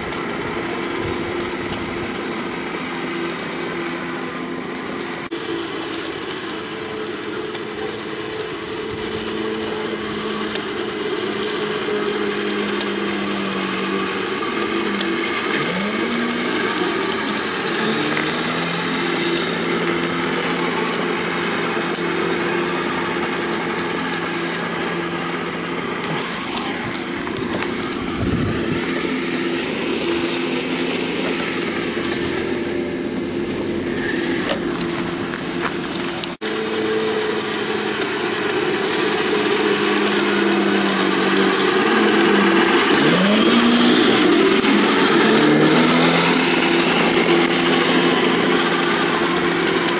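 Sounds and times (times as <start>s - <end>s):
recorded tank engine sound: 0.0s - 49.9s.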